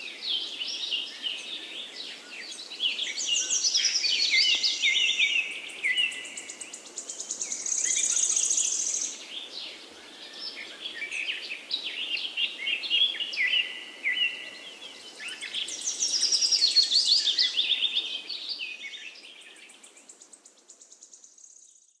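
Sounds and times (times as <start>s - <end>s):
faint steady hiss: 0.0s - 22.0s
songbirds chirping and trilling: 0.0s - 22.0s.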